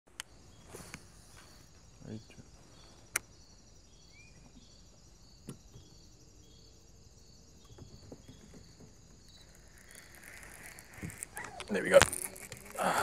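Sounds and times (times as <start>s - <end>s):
insects chirping: 0.1s - 13.0s.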